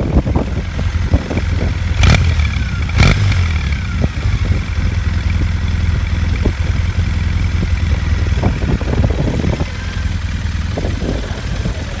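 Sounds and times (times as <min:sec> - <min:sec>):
motorcycle engine idling: 0:00.0 - 0:12.0
wind buffeting microphone: 0:00.0 - 0:12.0.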